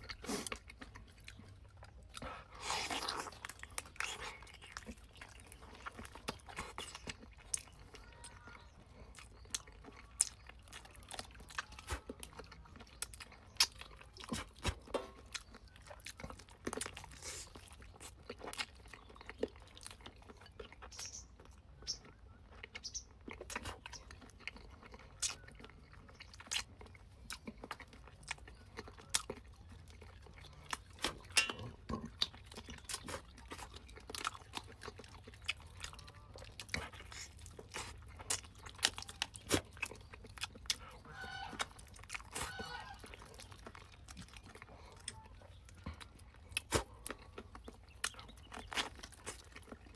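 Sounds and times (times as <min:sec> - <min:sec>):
person chewing and biting: 0:00.0 - 0:49.9.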